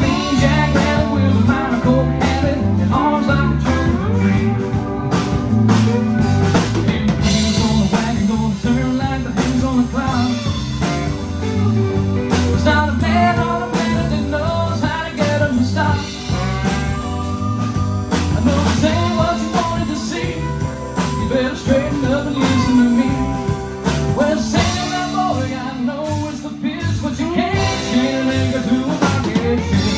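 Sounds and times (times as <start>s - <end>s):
drum kit beat: 0.0s - 29.9s
electric bass: 0.0s - 29.9s
electric guitars: 0.0s - 29.9s
live rock band: 0.0s - 29.9s.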